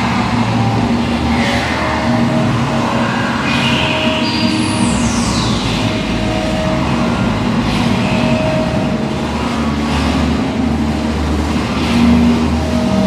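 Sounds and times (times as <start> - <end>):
electronic noise music: 0.0 - 13.0
low drone: 0.0 - 13.0.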